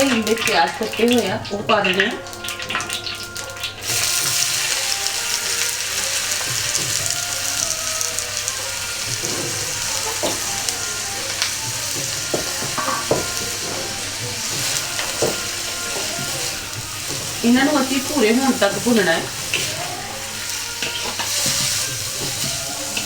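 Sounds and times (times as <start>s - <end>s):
onions sizzling in hot fat: 0.0s - 23.0s.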